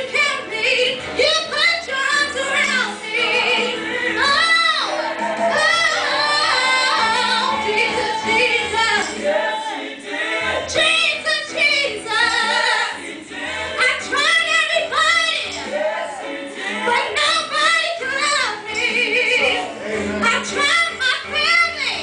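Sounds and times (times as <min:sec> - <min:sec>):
woman singing into microphone: 0:00.0 - 0:09.8, 0:10.5 - 0:13.0, 0:13.8 - 0:15.7, 0:16.7 - 0:22.0.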